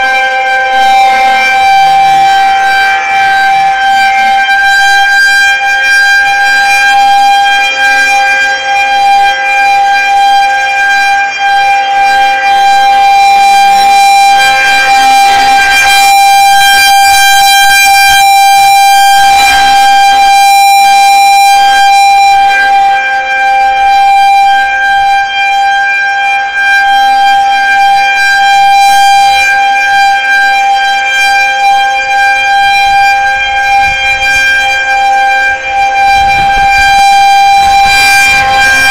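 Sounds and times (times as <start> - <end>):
outdoor warning siren steady tone: 0.0 - 38.9.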